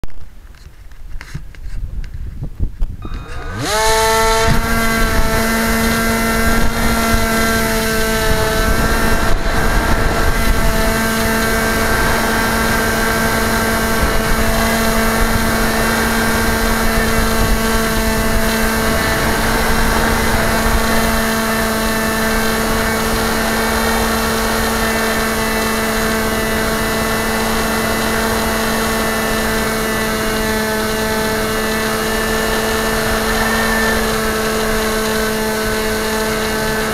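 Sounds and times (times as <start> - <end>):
model aircraft motor whine: 3.0 - 36.9
propeller rushing hiss: 3.0 - 36.9.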